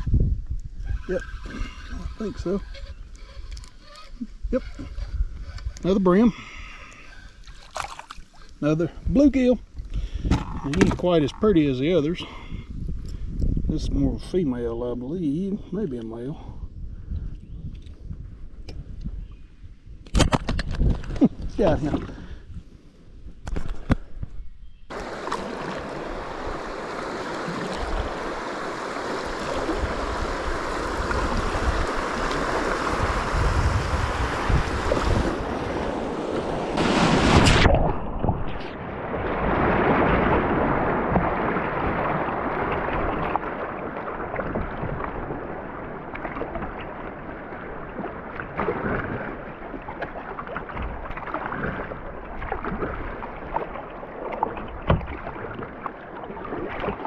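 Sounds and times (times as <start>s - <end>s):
wind buffeting microphone: 0.0s - 7.3s, 8.8s - 49.5s
water lapping around kayak: 0.0s - 13.5s, 20.9s - 57.0s.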